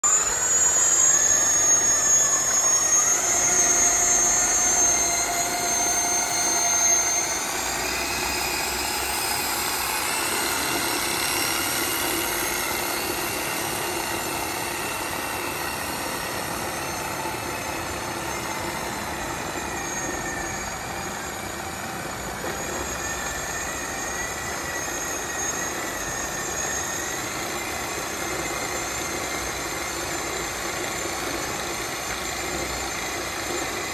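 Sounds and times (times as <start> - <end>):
high whine: 0.0 - 33.9
mechanical hum: 0.0 - 33.9
model boat motor whining: 0.1 - 33.9.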